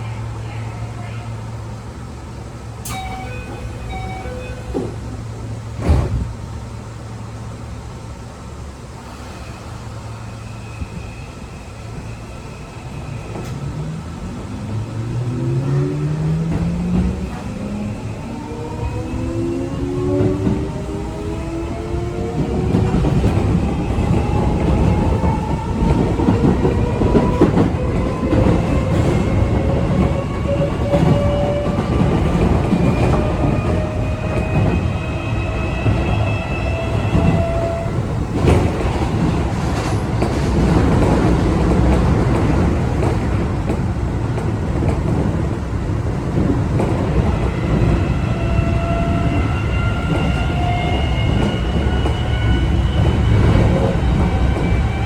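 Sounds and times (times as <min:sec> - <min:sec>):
wheels rumbling and clicking on track: 0:00.0 - 0:09.8, 0:11.9 - 0:55.0.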